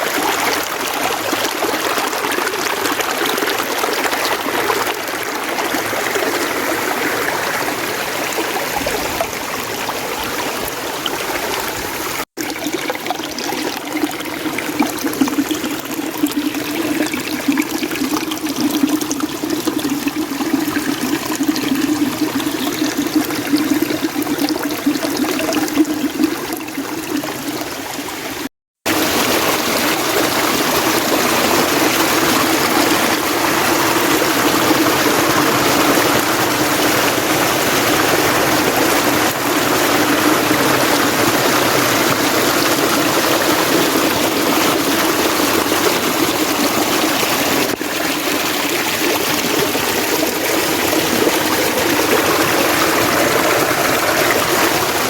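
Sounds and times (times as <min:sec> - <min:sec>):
stream water over rocks: 0:00.0 - 0:55.0.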